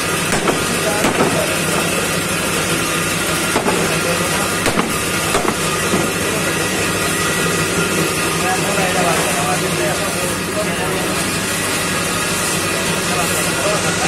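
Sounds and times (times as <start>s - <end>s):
background hum and rumble: 0.0s - 14.0s.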